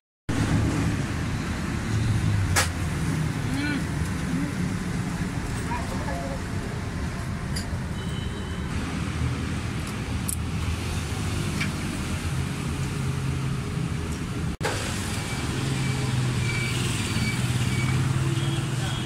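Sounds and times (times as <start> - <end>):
road traffic rumble: 0.3 - 19.0.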